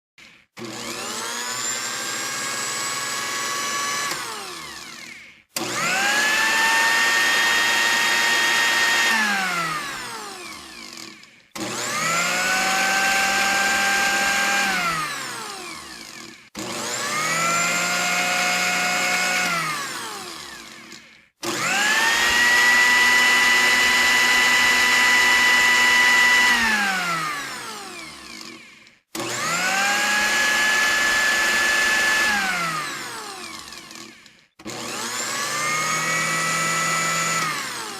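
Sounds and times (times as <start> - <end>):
blender motor whining: 0.2 - 37.9.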